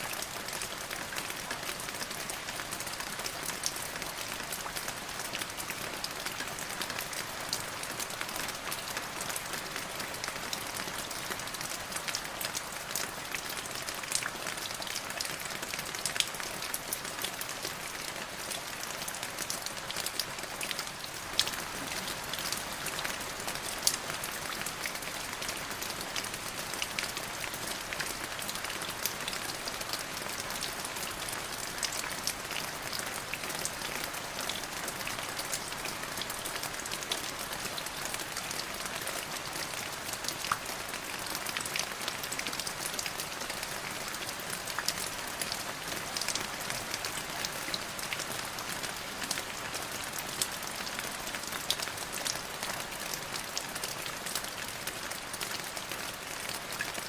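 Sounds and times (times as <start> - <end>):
steady rain: 0.0 - 57.0
raindrops pattering on a surface: 0.1 - 57.0.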